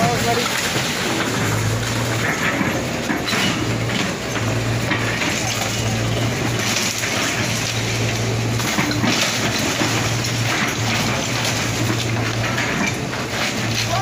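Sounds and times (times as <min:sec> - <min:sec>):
debris crunching and cracking: 0:00.0 - 0:14.0
diesel engine hum: 0:00.0 - 0:14.0.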